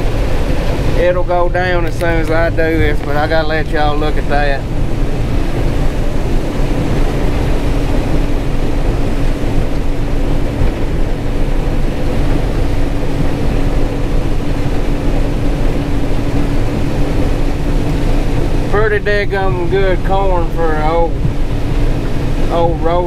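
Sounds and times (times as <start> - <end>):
combine harvester running under load: 0.0 - 23.0.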